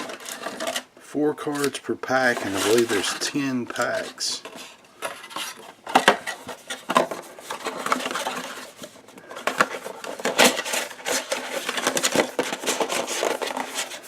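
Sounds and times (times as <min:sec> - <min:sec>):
foil packs crinkling: 0:01.4 - 0:05.4, 0:06.0 - 0:14.0.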